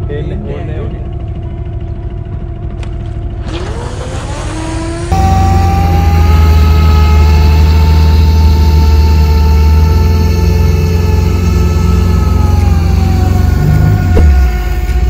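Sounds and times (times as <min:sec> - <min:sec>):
boat motor whining: 0:00.0 - 0:15.0.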